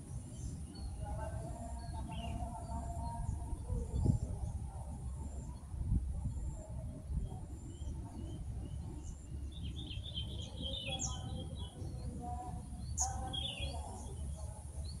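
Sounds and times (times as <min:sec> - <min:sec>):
small birds chirping: 0:00.0 - 0:05.6, 0:06.2 - 0:15.0.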